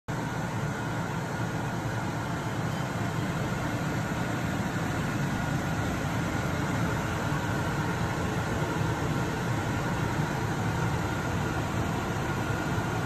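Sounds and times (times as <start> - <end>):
low mechanical hum: 0.1 - 13.0.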